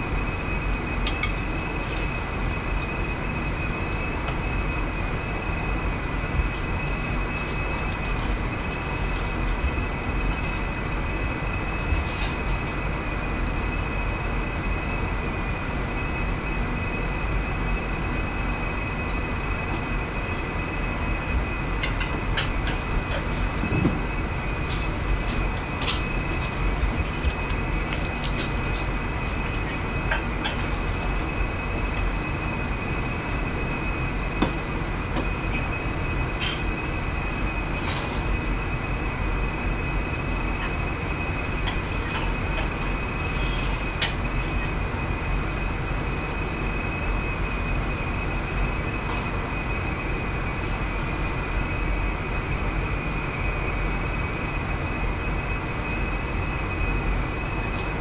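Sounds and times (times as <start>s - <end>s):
thin high whine: 0.0s - 58.0s.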